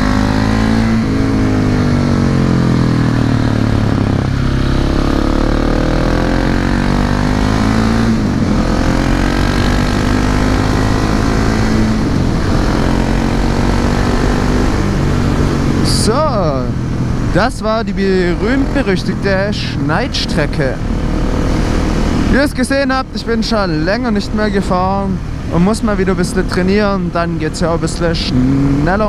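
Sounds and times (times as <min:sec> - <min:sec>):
motorcycle engine revving hard: 0:00.0 - 0:29.0.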